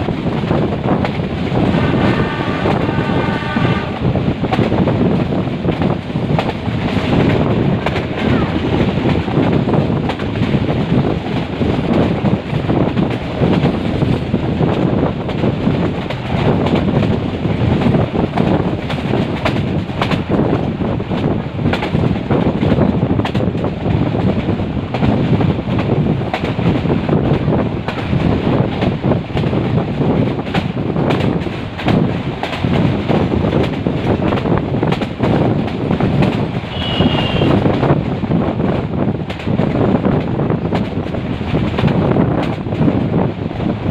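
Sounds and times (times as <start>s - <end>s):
train wheels clattering over rails: 0.0s - 43.9s.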